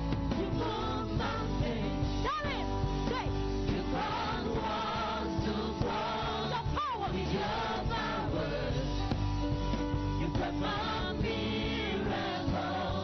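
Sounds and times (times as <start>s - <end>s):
band with steady bass: 0.0s - 13.0s
choir singing gospel music: 0.0s - 13.0s.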